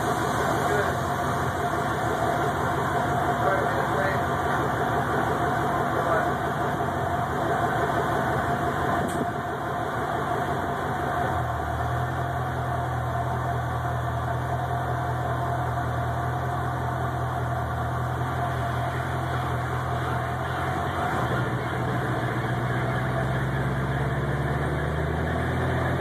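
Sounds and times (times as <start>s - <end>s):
car engine running: 0.0s - 26.0s
steady higher hum: 0.0s - 26.0s.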